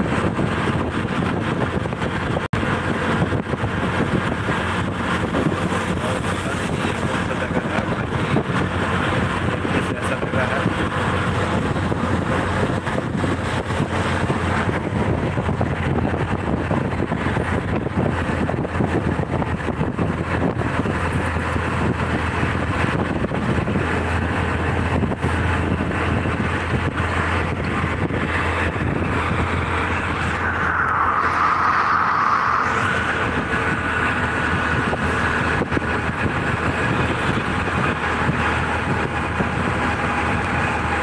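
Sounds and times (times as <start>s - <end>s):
passing traffic: 0.0s - 41.0s
tyres rumbling on road: 0.0s - 41.0s.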